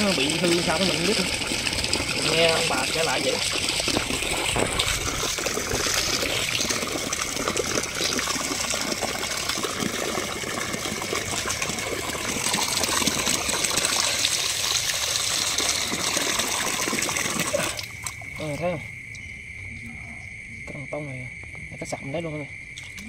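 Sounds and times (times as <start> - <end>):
water gushing from hose: 0.0 - 18.8.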